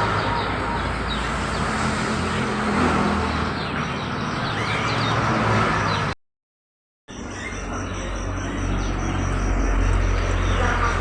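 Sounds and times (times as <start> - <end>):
small birds chirping: 0.0 - 6.2, 7.1 - 11.0
traffic engines humming: 0.0 - 6.2, 7.1 - 11.0.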